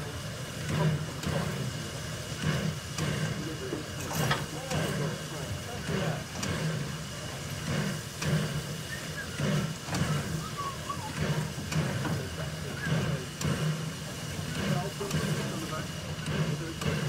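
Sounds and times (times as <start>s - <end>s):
steam locomotive throbbing: 0.0s - 17.0s.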